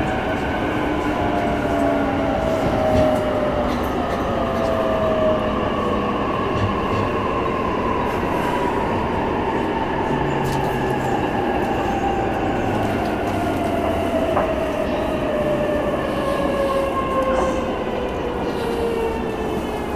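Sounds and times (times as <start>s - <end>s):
train wheels rumbling on track: 0.0s - 19.9s.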